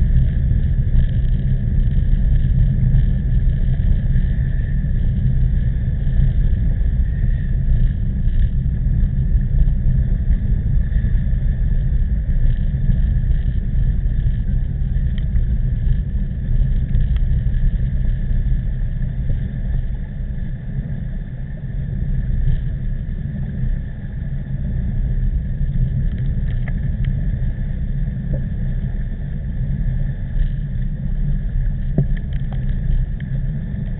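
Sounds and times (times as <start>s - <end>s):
faint high hum: 0.0s - 33.9s
wind buffeting microphone: 0.0s - 33.9s.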